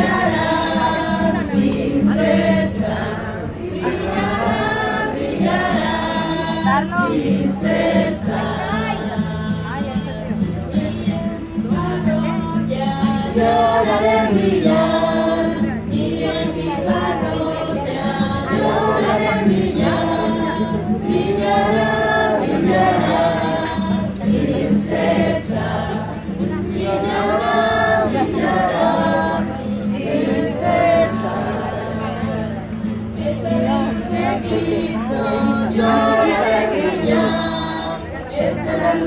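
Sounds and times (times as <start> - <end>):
group singing a hymn: 0.0 - 39.0
held low vocal notes: 0.0 - 39.0.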